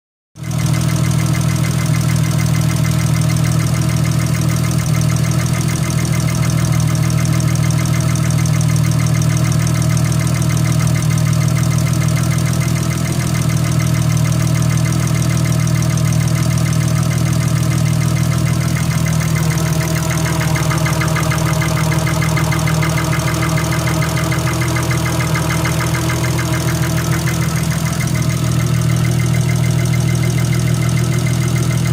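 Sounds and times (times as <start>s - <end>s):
car engine idling: 0.4s - 31.9s
fast valvetrain ticking: 6.2s - 31.9s.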